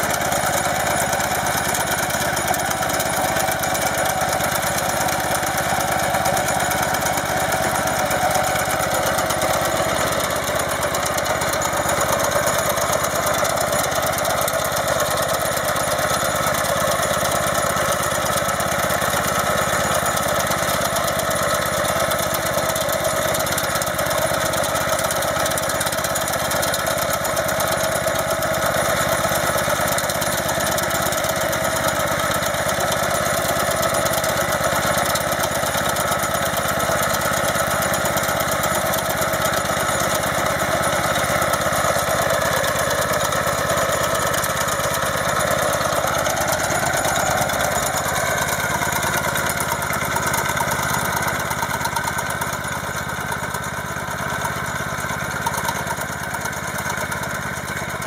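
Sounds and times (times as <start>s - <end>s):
walk-behind tractor engine running: 0.0s - 58.0s.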